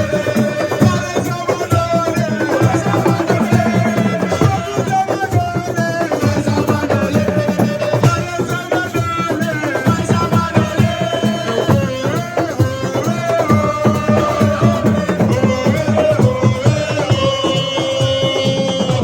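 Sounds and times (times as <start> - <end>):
fast hand-drumming: 0.0 - 19.0.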